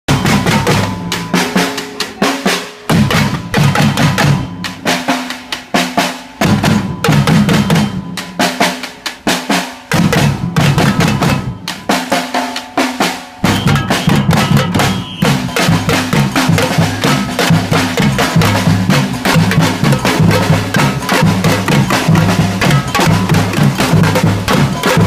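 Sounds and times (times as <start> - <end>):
music with fast drumming: 0.1 - 25.0.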